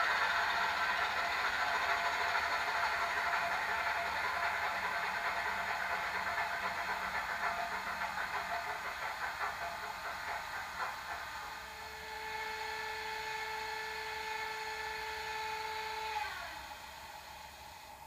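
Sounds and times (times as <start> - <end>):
model train rattling: 0.0 - 18.0.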